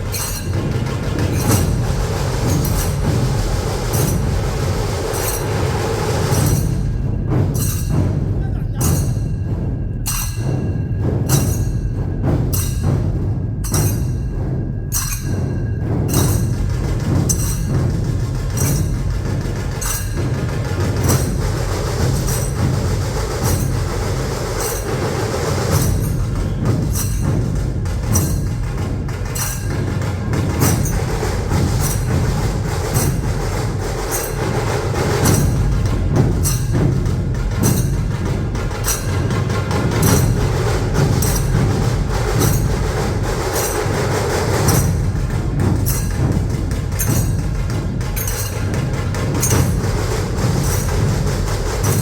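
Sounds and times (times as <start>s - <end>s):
dhol drums beating: 0.0s - 52.0s
sharp high drum accents: 0.0s - 52.0s
tasha drums: 0.0s - 52.0s.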